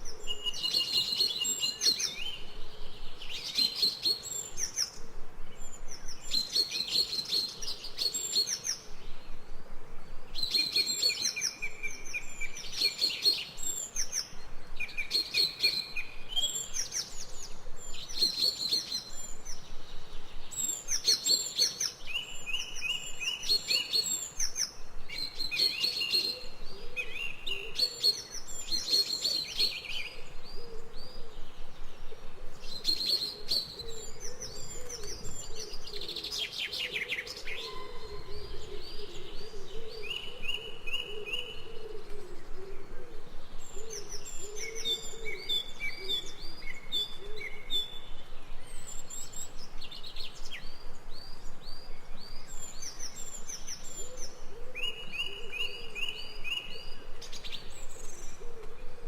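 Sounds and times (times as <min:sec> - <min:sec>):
birds chirping and singing: 0:00.0 - 0:09.4, 0:10.3 - 0:59.0
faint steady background noise: 0:00.0 - 0:59.0.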